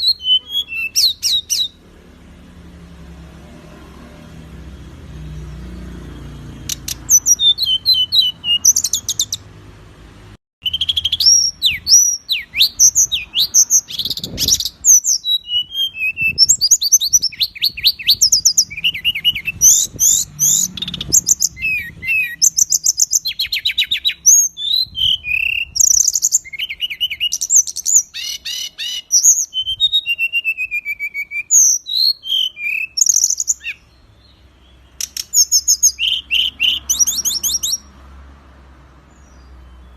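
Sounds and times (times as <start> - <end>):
songbird singing rapid chirps: 0.0 - 39.9.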